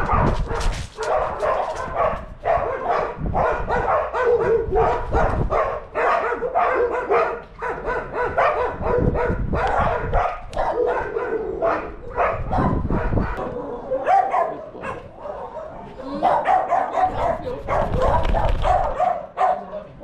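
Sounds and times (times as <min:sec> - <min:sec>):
dogs barking: 0:00.0 - 0:19.9.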